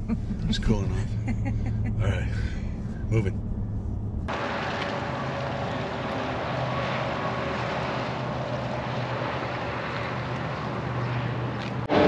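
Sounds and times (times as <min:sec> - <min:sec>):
road noise: 0:00.0 - 0:12.0
truck engine hum: 0:00.0 - 0:12.0.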